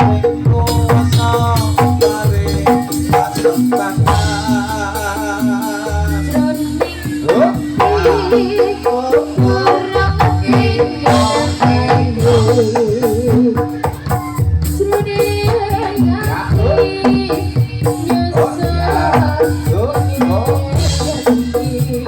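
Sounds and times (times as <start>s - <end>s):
amplified gamelan ensemble music: 0.0s - 22.0s.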